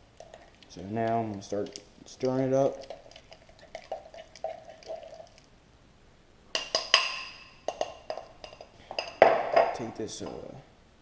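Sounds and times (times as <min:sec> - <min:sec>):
utensil clinking against glass: 0:00.2 - 0:05.4, 0:06.6 - 0:10.6.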